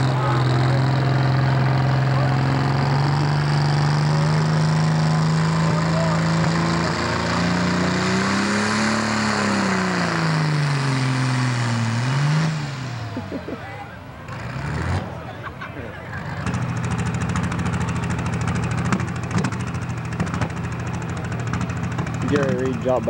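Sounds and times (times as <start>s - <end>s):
diesel tractor engine revving: 0.0s - 23.0s.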